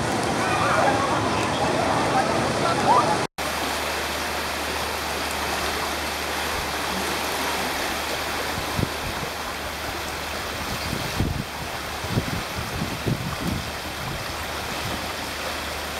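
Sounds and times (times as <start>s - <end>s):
floodwater rushing: 0.0s - 15.9s.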